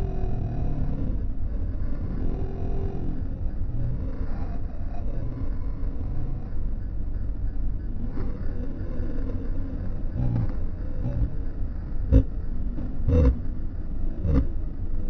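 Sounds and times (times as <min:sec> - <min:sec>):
low rumble of city traffic: 0:00.0 - 0:15.0.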